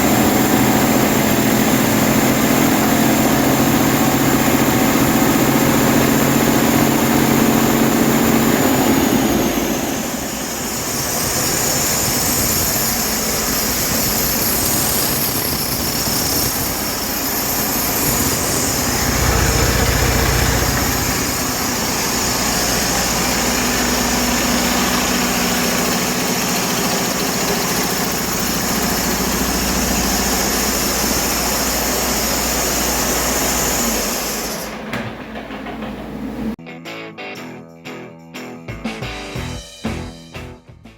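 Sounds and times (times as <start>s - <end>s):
diesel engine running: 0.0s - 36.6s.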